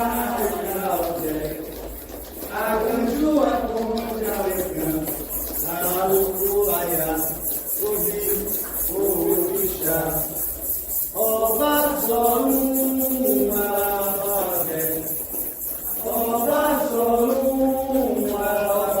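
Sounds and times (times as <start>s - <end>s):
high-pitched percussion pattern: 0.0s - 19.0s
voices singing a chant: 0.0s - 19.0s.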